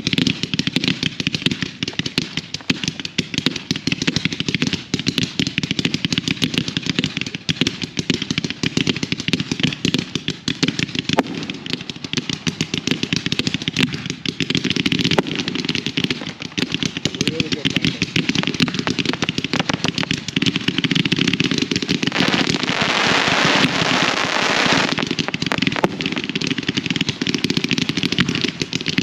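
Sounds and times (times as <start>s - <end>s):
fireworks popping and crackling: 0.0s - 29.0s.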